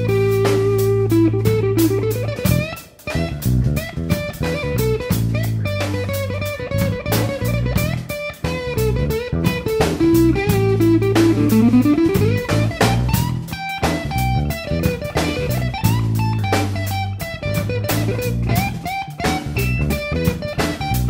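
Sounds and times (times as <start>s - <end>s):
bass: 0.0s - 21.0s
electric guitar: 0.0s - 21.0s
steady drum beat: 0.0s - 21.0s.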